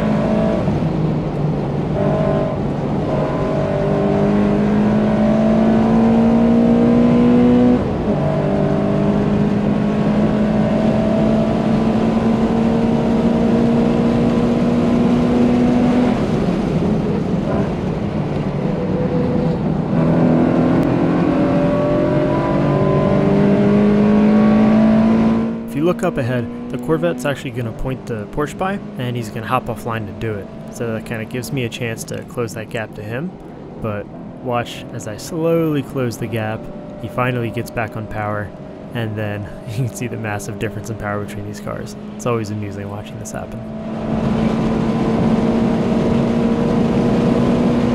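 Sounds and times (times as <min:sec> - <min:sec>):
car engine revving at full throttle: 0:00.0 - 0:47.9.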